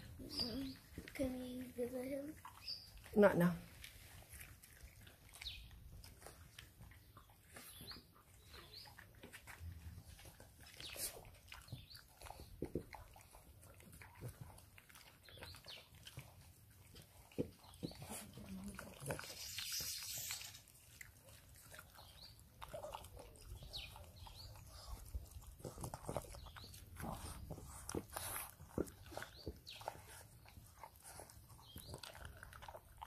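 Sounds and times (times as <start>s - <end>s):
puppy chewing and licking: 0.0s - 33.0s.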